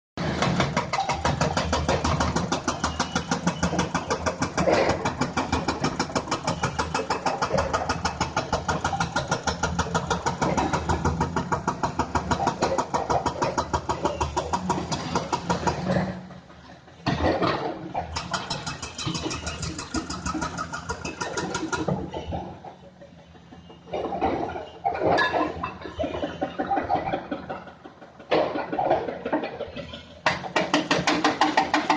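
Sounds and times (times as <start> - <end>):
excavator diesel engine running: 0.2 - 31.9.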